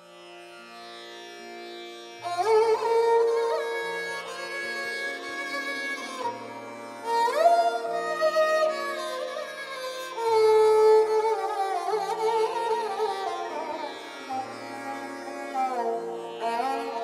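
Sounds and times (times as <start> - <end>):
sarangi melody: 0.0 - 17.0.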